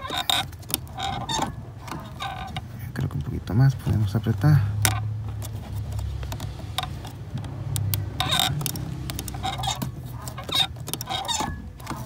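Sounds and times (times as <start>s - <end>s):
cable tie clicking: 0.0s - 12.0s.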